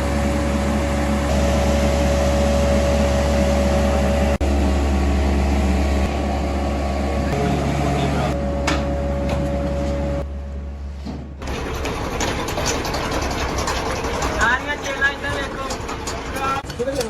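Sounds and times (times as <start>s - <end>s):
workshop machinery droning: 0.0s - 16.8s.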